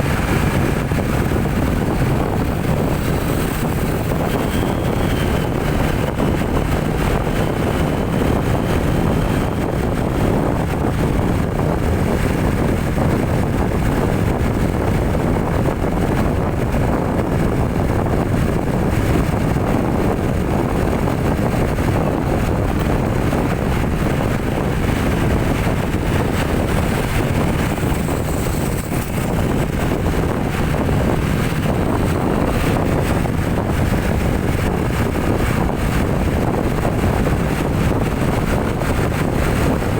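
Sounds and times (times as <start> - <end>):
vehicle engine and road noise: 0.0 - 39.9
wind buffeting microphone: 0.0 - 39.9.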